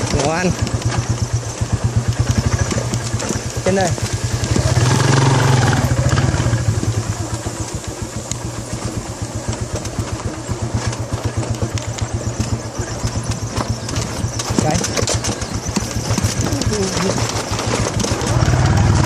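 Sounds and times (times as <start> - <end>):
motorcycle engine under load: 0.0 - 19.0.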